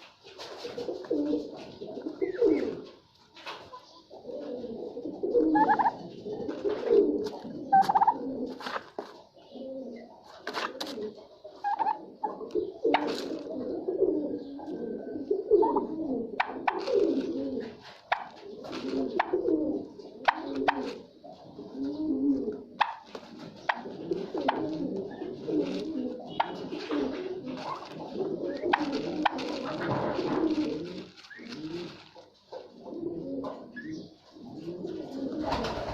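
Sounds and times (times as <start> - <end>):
birds cooing and calling: 0.0 - 35.9.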